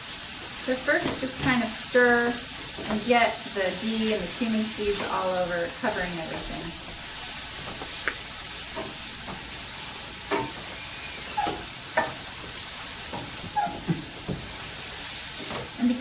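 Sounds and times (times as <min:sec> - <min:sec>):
vegetables sizzling in a pan: 0:00.0 - 0:16.0
wooden spoon scraping a pan: 0:00.6 - 0:15.8.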